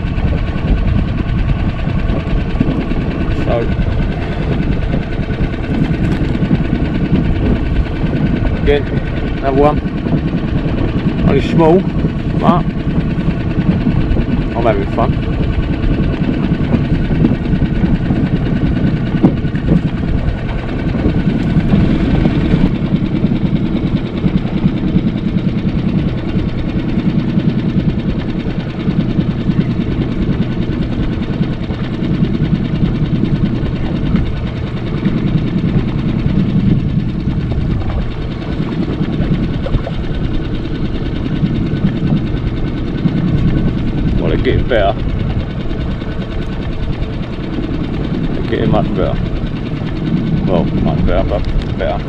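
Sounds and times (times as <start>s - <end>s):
outboard motor idling: 0.0s - 52.0s.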